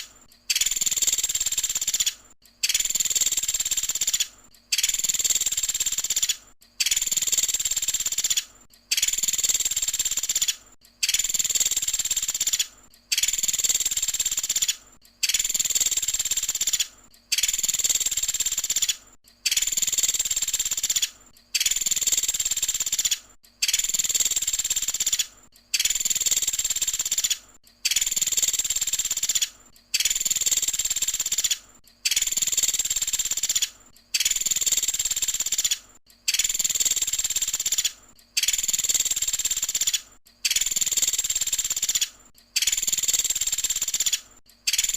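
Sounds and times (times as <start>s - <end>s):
bird buzzy trill: 0.0s - 44.9s.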